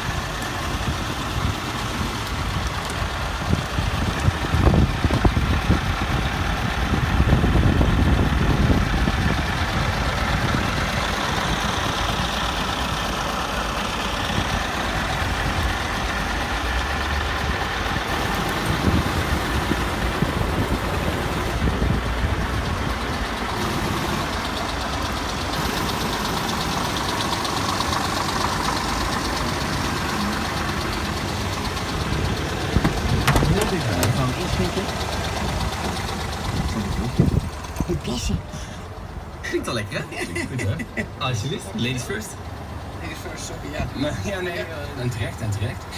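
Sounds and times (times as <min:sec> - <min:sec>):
truck diesel engine idling: 0:00.0 - 0:45.9.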